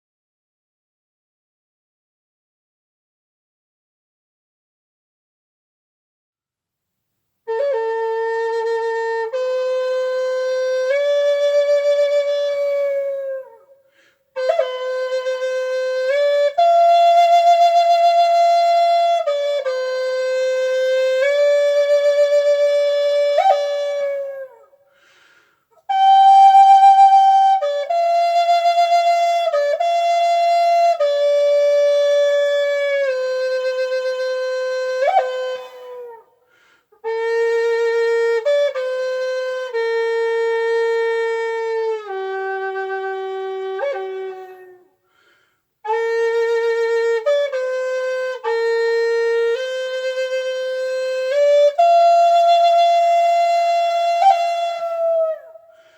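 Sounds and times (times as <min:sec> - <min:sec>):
flute-like slow melody: 0:07.5 - 0:25.0, 0:25.8 - 0:45.0, 0:45.8 - 0:55.9.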